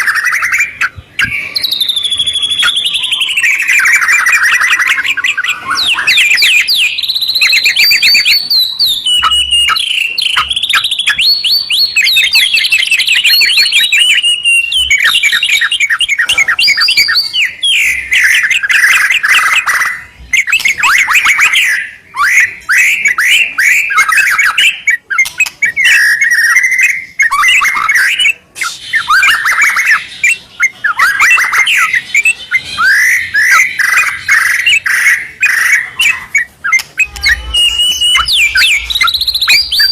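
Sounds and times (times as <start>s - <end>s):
birds singing trills: 0.0s - 39.9s.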